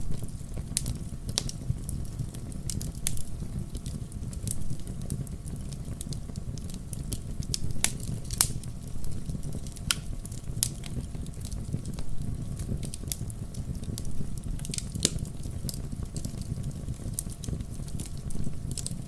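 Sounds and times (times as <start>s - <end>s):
campfire crackling and popping: 0.0s - 19.0s
low rumble of burning fire: 0.0s - 19.0s.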